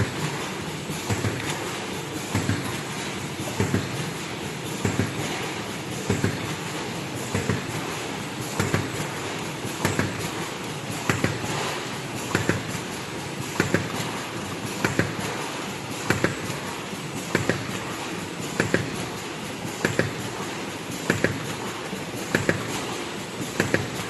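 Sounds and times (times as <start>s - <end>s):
machine double clack: 0.0s - 24.0s.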